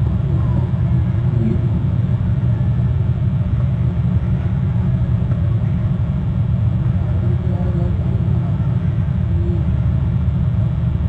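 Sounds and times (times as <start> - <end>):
loud steady low rumble: 0.0 - 11.0.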